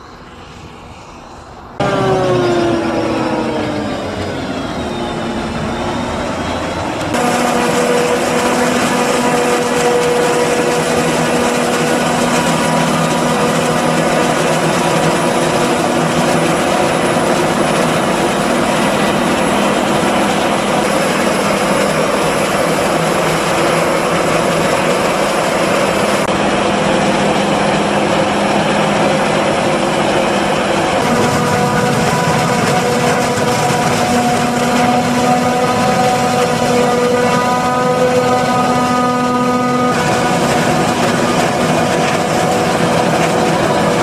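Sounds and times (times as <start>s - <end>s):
harvester machine drone and whine: 0.0s - 44.0s
tractor running: 1.6s - 44.0s.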